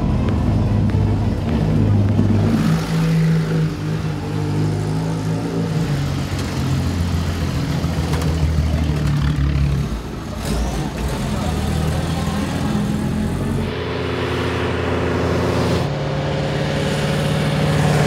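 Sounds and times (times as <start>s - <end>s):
racing car engines revving: 0.0s - 18.0s.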